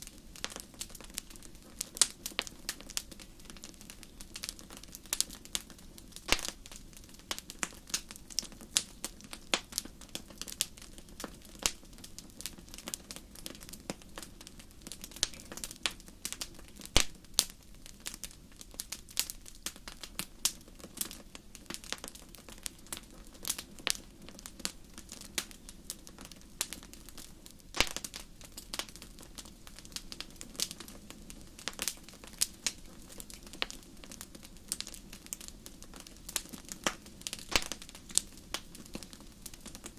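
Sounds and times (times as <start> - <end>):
fire low hiss: 0.0 - 39.9
wood fire crackling and popping: 0.0 - 39.9.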